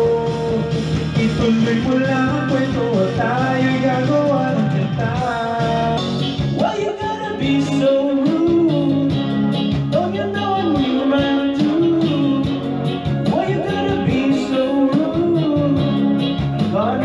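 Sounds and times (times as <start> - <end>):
backing track over loudspeakers: 0.0 - 17.0
man singing karaoke: 0.0 - 17.0.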